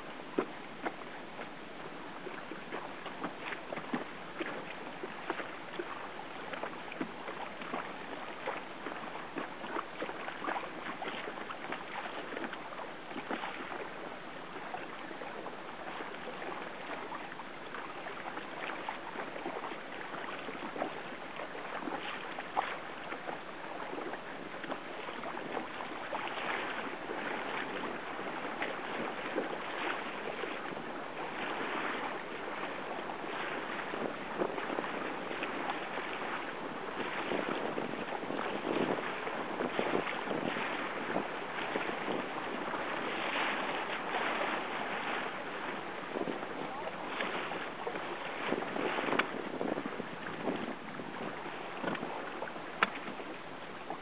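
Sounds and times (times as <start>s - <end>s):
water splashing around boat: 0.0s - 54.0s
wind: 0.0s - 54.0s.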